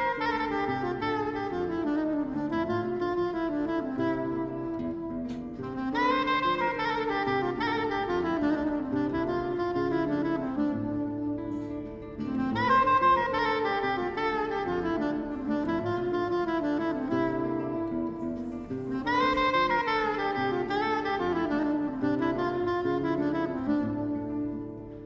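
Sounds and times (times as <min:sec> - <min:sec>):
saxophone melody: 0:00.0 - 0:25.0.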